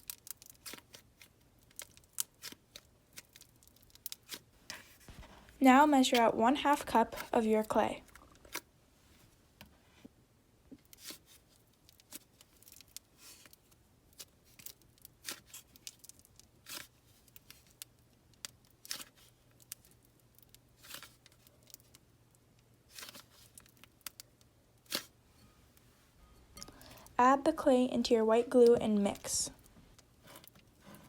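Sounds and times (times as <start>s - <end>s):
clay tearing rustles: 0.0s - 9.4s, 10.8s - 27.2s, 28.5s - 31.0s.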